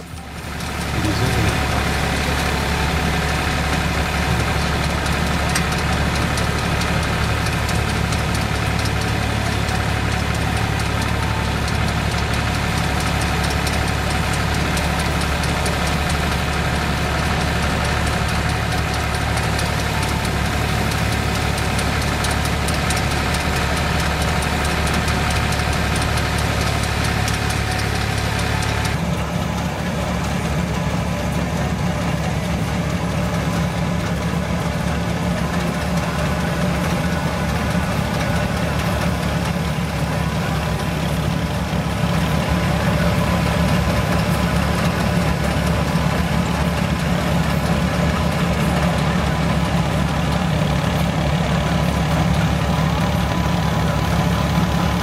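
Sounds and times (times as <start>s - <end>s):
threshing machine clatter: 0.0s - 55.0s
tractor engine running: 0.0s - 55.0s.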